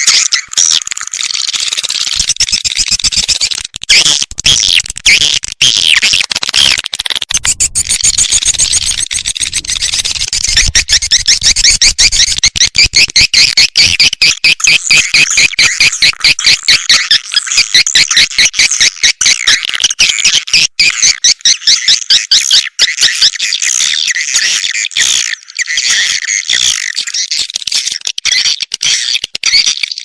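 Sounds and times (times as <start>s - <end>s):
swiftlets chirping and twittering: 0.0s - 30.0s.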